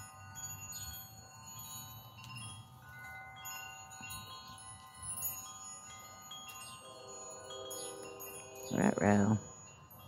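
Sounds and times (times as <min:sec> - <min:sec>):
metal wind chimes ringing: 0:00.0 - 0:10.0.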